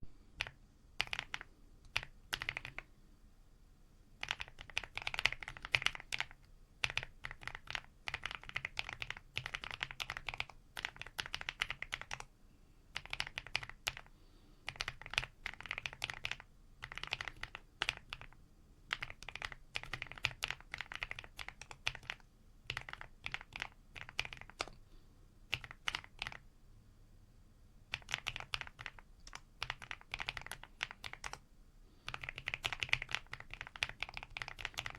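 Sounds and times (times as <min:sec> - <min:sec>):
mechanical keyboard typing: 0:00.4 - 0:02.9, 0:04.2 - 0:12.3, 0:13.0 - 0:14.1, 0:14.7 - 0:24.8, 0:25.5 - 0:26.4, 0:27.9 - 0:31.4, 0:32.0 - 0:34.9.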